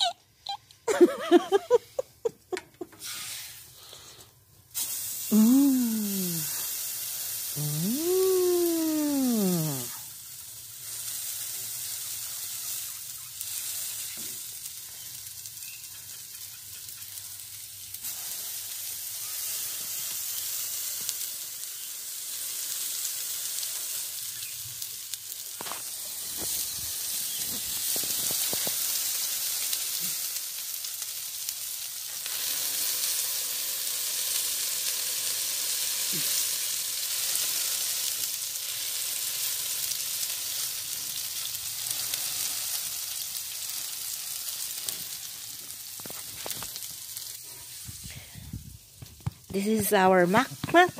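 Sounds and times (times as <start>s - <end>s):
burgers sizzling on griddle: 0.9s - 50.9s.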